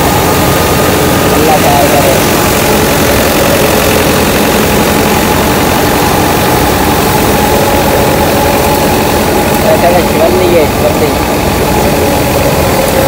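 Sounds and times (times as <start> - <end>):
thresher rushing: 0.0 - 13.0
tractor engine drone: 0.0 - 13.0.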